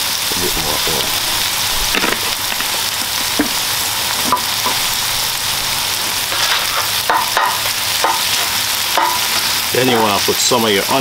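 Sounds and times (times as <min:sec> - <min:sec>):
meat and onion sizzling on griddle: 0:00.0 - 0:11.0
oil popping: 0:00.1 - 0:09.8.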